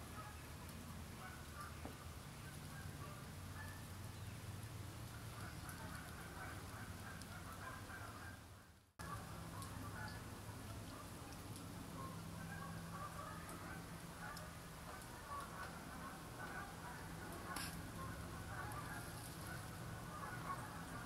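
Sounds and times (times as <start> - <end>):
distant waterfowl honking: 1.2 - 3.9, 5.0 - 21.0.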